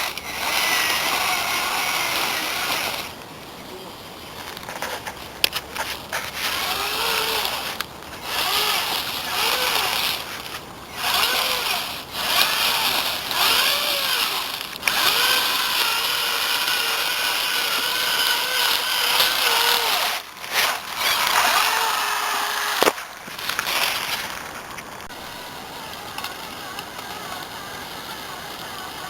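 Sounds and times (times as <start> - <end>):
electric motor and gearbox whining: 0.0 - 29.0.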